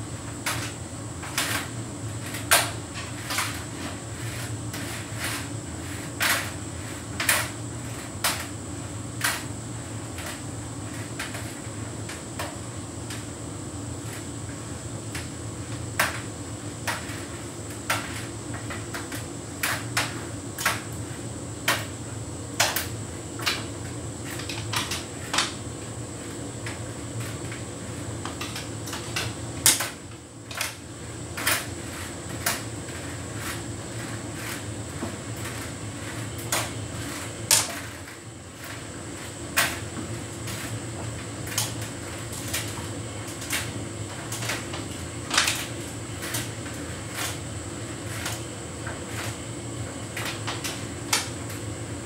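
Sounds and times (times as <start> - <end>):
tumble dryer hum: 0.0 - 52.0.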